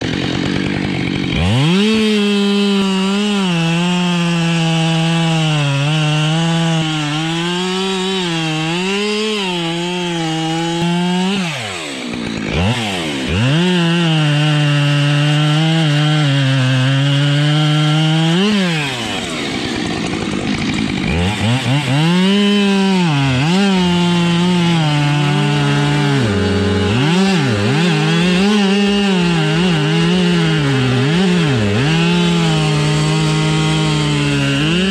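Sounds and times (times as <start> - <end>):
chainsaw cutting branches: 0.0 - 34.9.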